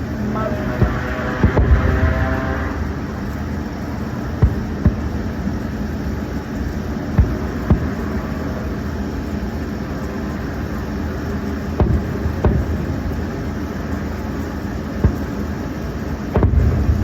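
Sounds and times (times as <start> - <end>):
distant fireworks bangs: 0.0 - 17.0
road traffic rumble: 0.0 - 17.0.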